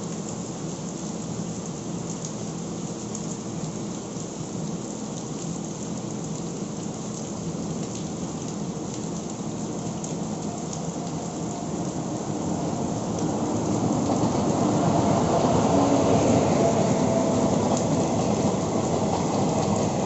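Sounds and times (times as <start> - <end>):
heavy rain on leaves: 0.0 - 20.0.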